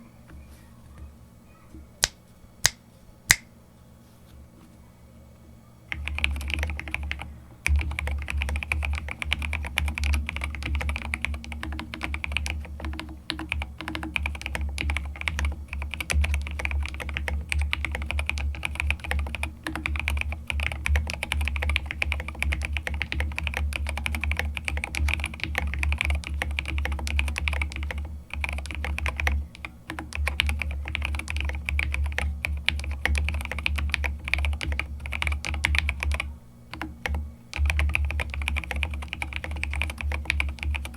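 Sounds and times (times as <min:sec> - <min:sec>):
mechanical keyboard typing: 0:05.9 - 0:40.9.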